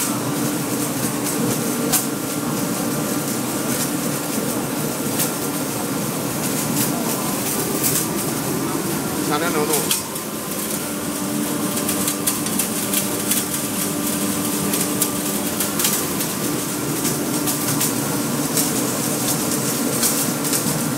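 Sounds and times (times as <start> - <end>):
burner mechanical hum: 0.0 - 20.9
rushing flame: 0.0 - 20.9.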